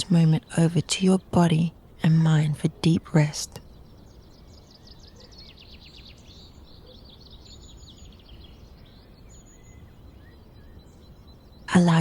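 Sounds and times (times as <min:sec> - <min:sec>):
birds trilling: 0:00.0 - 0:12.0.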